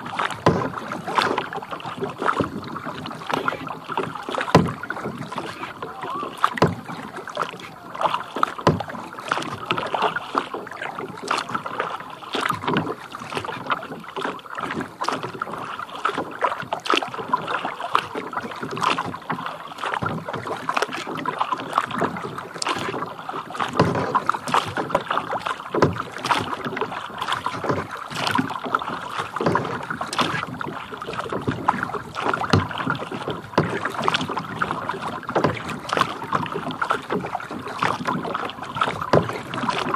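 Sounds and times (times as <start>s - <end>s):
water splashing against kayak: 0.0s - 39.9s.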